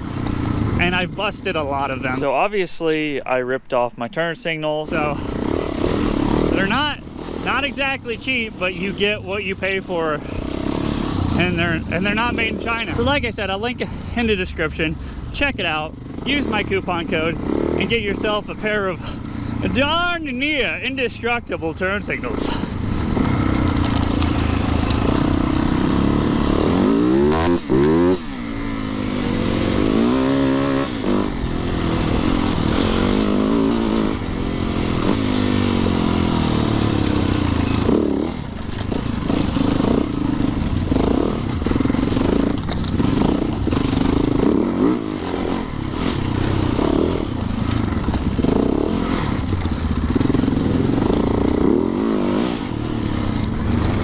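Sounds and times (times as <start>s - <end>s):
dirt bike engine revving: 0.0s - 2.4s, 4.9s - 21.1s, 21.8s - 54.0s.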